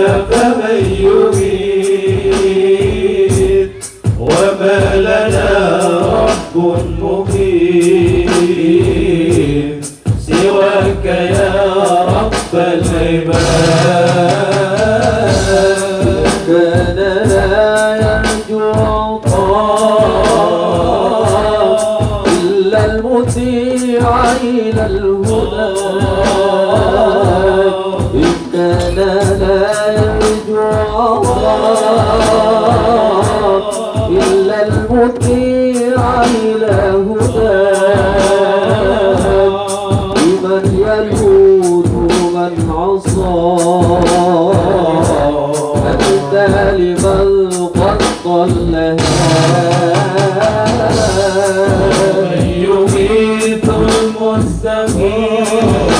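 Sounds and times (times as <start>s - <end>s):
men singing in unison: 0.0s - 55.9s
steady drum beat: 0.0s - 55.9s.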